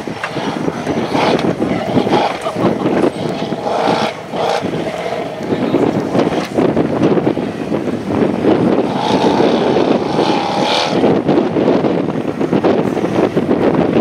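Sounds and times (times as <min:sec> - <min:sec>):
buggy engine revving: 0:00.0 - 0:14.0
wind buffeting microphone: 0:00.0 - 0:14.0.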